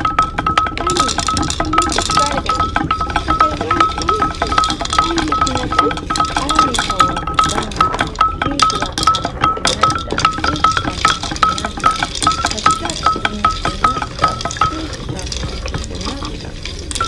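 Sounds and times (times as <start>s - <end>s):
clattering: 0.0s - 17.0s
rhythmic metallic clinking: 0.0s - 17.0s
murmuring voices: 0.7s - 17.0s.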